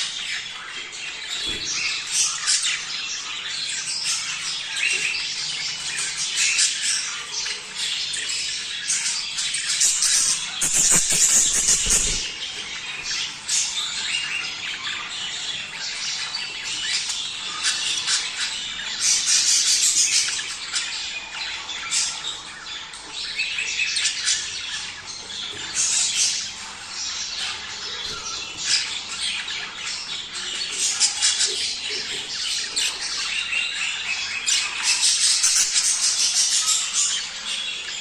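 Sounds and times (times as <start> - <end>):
budgerigars chattering: 0.0 - 38.0.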